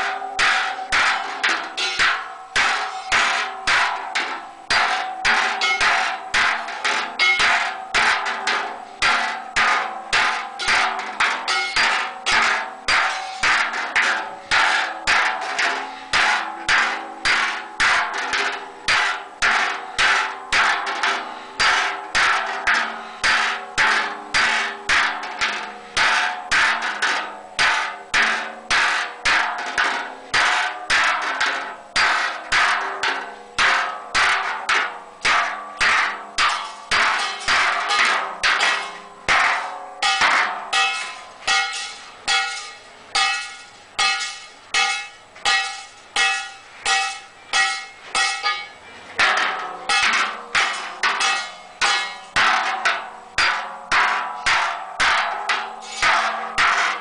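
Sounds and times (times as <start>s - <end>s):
hammer ringing on metal cauldron: 0.0s - 57.0s.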